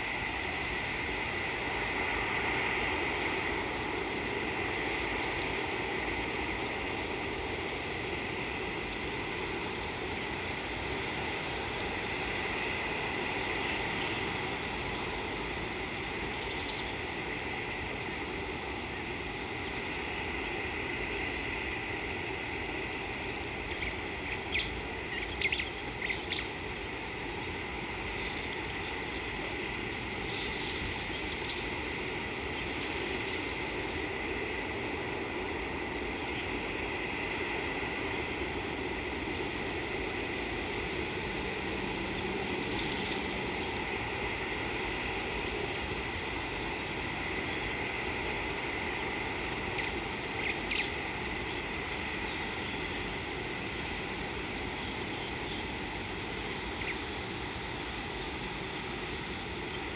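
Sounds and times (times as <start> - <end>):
high insect chirps: 0.0 - 59.9
steady background hiss: 0.0 - 59.9.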